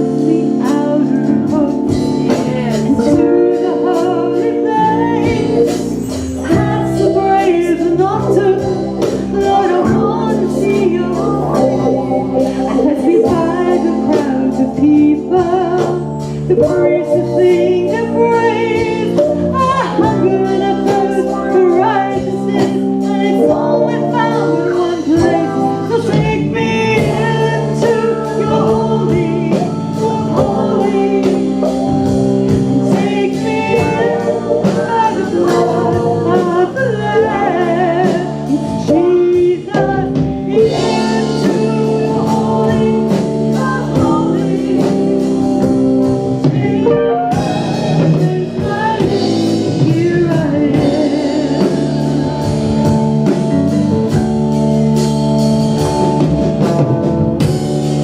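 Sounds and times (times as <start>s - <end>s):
person singing: 0.0s - 54.4s
worship band playing: 0.0s - 58.0s.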